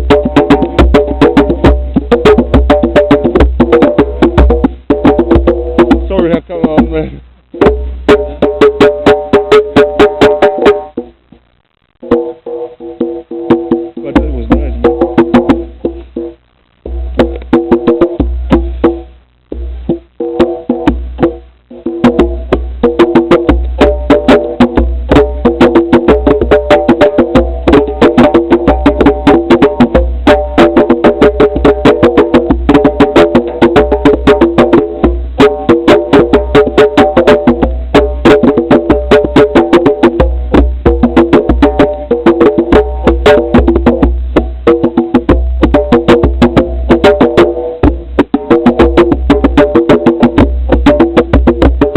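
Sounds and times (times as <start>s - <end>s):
music with clicking beat: 0.0s - 51.9s.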